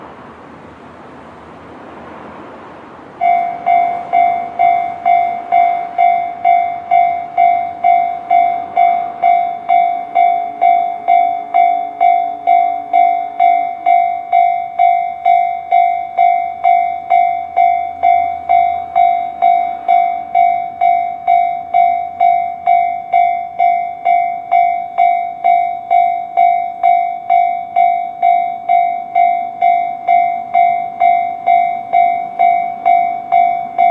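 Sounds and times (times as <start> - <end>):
level crossing warning bell: 3.2 - 33.9.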